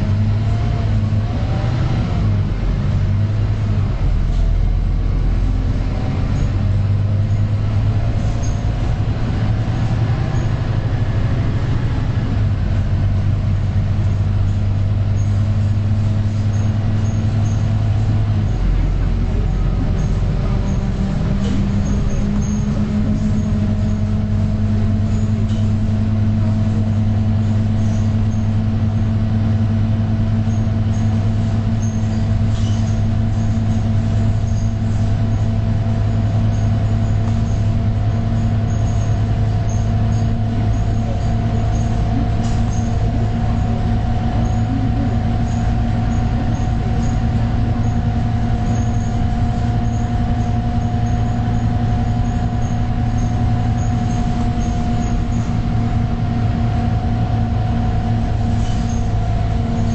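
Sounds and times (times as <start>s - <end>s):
bus engine drone with whine: 0.0s - 59.9s.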